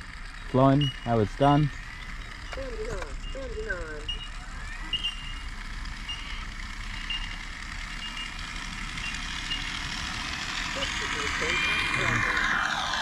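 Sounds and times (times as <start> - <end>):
rising whine: 0.0 - 13.0.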